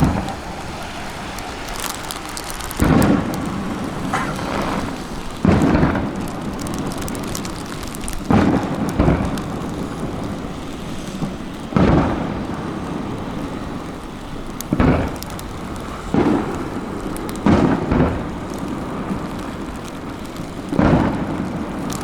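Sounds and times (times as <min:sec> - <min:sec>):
fireworks booming: 0:00.0 - 0:22.0
sparkly crackling: 0:00.0 - 0:22.0.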